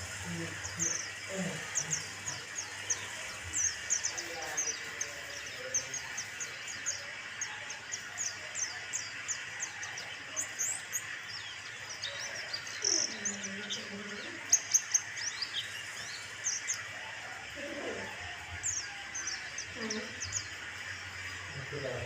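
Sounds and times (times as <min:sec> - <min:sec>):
bird chirping: 0:00.0 - 0:22.0
steady hiss: 0:00.0 - 0:22.0.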